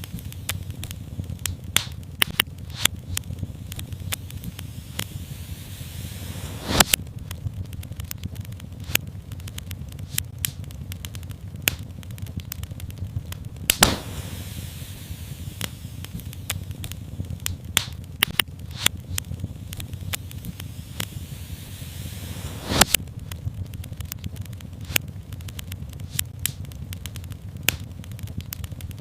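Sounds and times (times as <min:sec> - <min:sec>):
low rumble: 0:00.0 - 0:29.0
sharp pops and snaps: 0:00.0 - 0:29.0
soft hiss: 0:00.0 - 0:29.0
wood fire crackling: 0:00.0 - 0:29.0.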